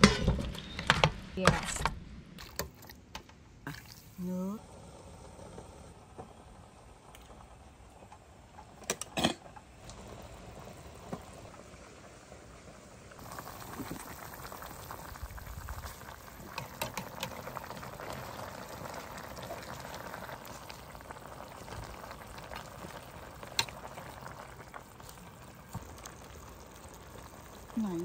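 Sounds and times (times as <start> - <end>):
broth bubbling in pot: 2.4 - 28.0.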